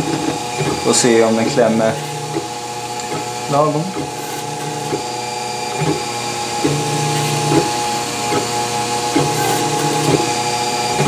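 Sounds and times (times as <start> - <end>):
stepper motors whining: 0.0 - 11.0.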